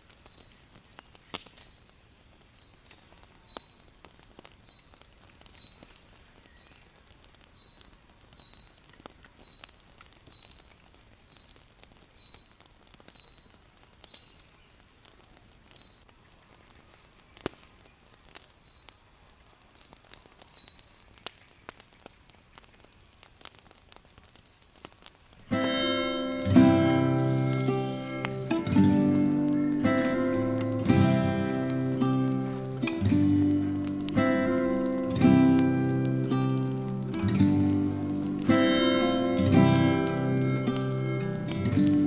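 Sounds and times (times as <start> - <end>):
sharp clicks and snaps: 0.0 - 17.7, 19.8 - 42.0.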